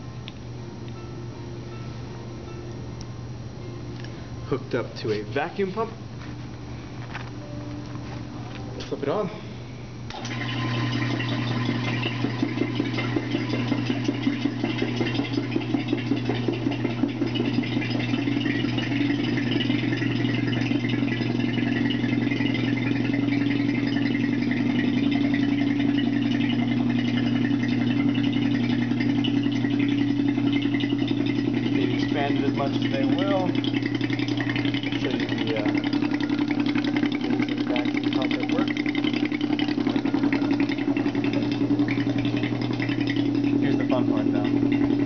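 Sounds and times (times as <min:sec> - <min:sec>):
vacuum pump humming: 0:00.0 - 0:45.0.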